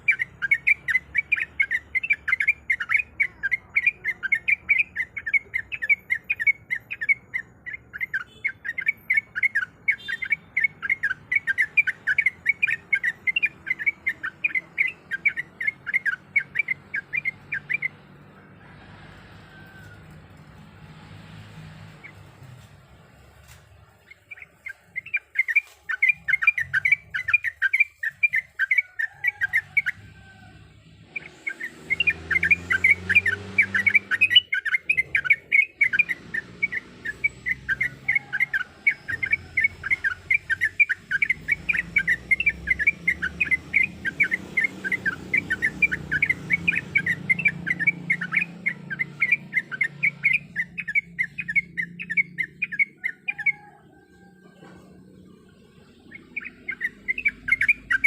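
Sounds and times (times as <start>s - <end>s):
bird singing chirpy notes: 0.0s - 58.0s.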